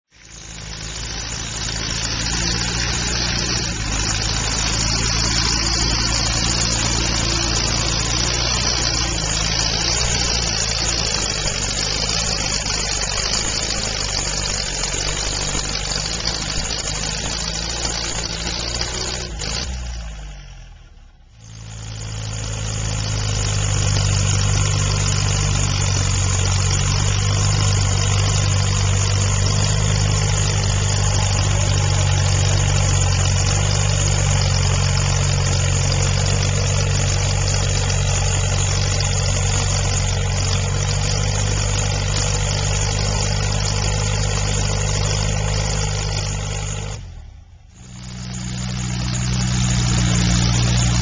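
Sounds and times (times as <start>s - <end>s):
nearby tractor engine humming: 0.1s - 19.6s, 21.5s - 47.0s, 47.8s - 51.0s
tractor engines running: 0.1s - 51.0s.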